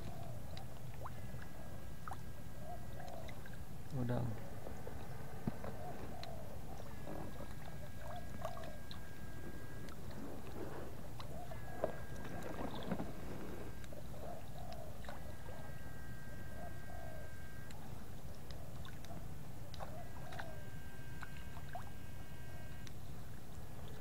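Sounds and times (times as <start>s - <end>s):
water sloshing and splashing: 0.0s - 15.8s, 17.7s - 22.6s.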